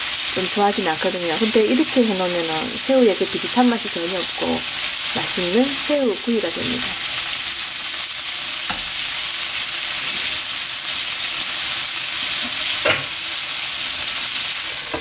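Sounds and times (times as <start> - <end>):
shrimp sizzling in oil: 0.0 - 15.0.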